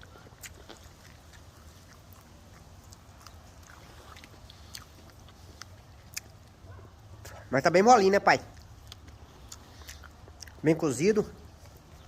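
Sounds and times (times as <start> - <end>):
man chewing soft corn: 0.0 - 12.0.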